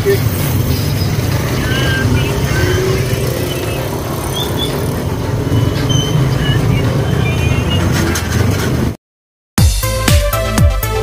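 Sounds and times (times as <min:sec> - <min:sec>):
motorcycles passing: 0:00.0 - 0:08.9.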